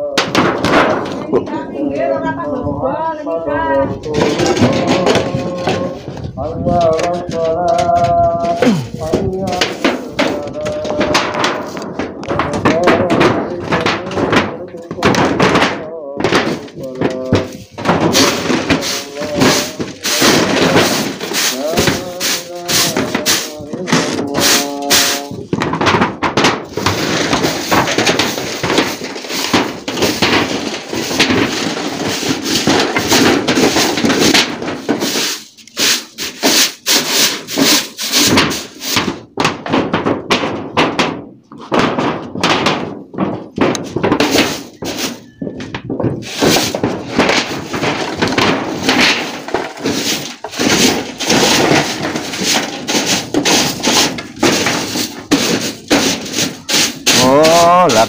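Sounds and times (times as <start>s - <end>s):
roof tiles scraping and knocking: 0.0s - 58.0s.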